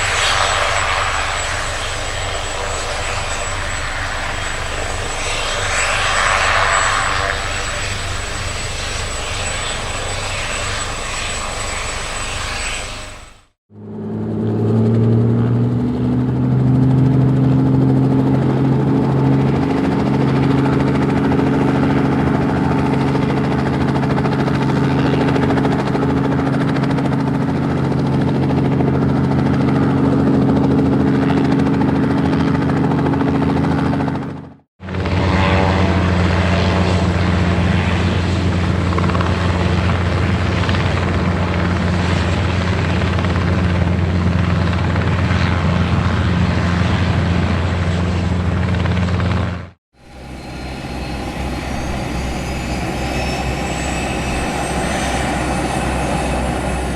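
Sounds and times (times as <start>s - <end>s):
helicopter rotor and engine drone: 0.0s - 56.9s.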